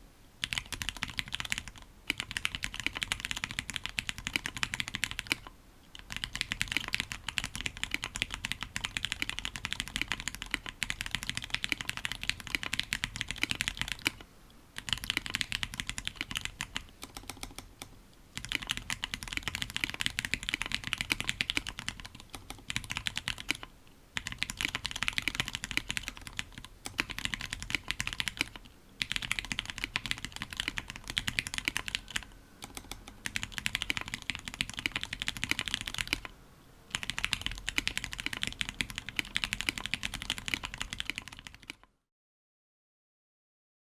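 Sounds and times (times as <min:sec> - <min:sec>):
mechanical keyboard typing: 0:00.4 - 0:14.2, 0:14.8 - 0:36.3, 0:36.9 - 0:41.8.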